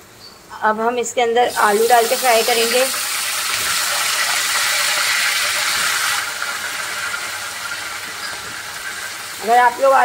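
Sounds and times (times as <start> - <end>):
hot oil sizzling in a pan: 1.5 - 10.0.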